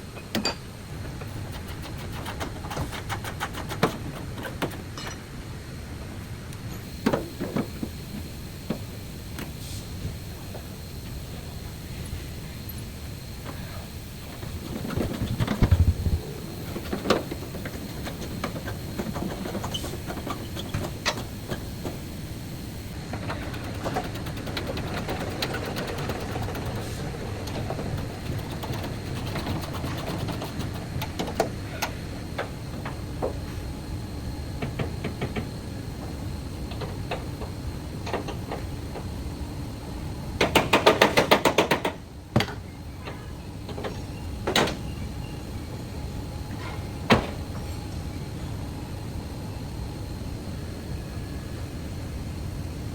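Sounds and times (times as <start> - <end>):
workshop background noise: 0.0 - 48.1.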